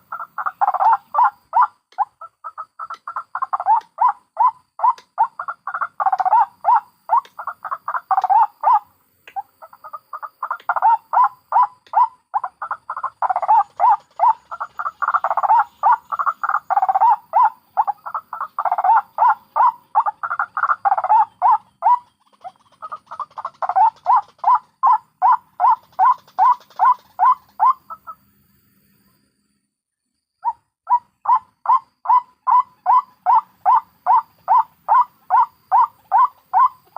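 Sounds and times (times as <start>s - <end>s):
waterhen croaking calls: 0.0s - 28.2s, 30.4s - 36.9s.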